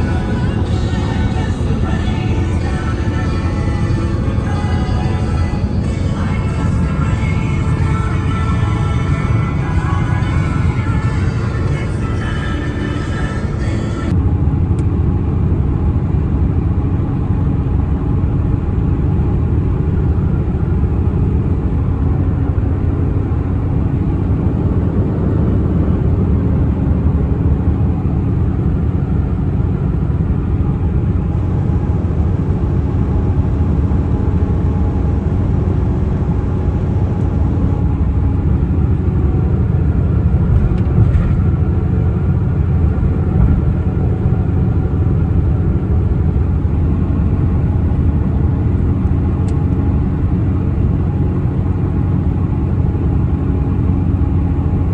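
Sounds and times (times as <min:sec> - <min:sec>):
truck engine droning: 0:00.0 - 0:54.9.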